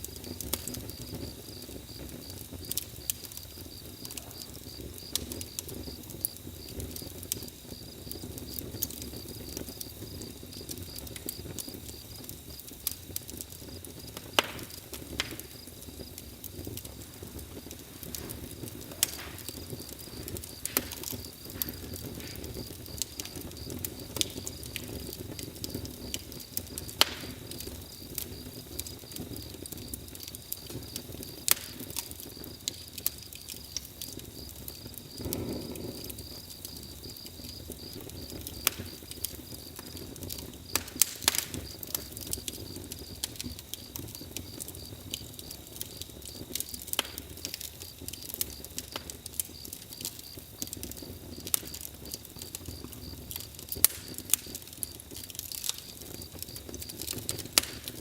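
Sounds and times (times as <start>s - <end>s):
campfire crackling and popping: 0.0s - 58.0s
rush of flames: 0.0s - 58.0s.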